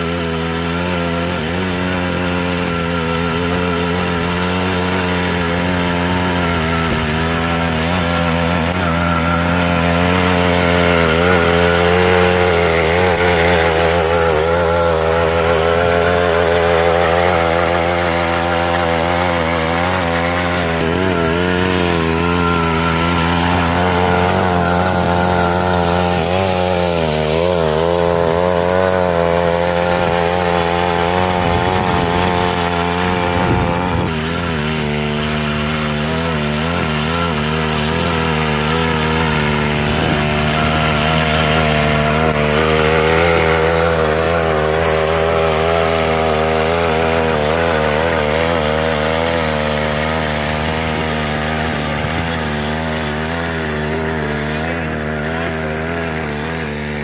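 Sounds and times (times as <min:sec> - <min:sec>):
two-stroke tiller engine running: 0:00.0 - 0:57.0.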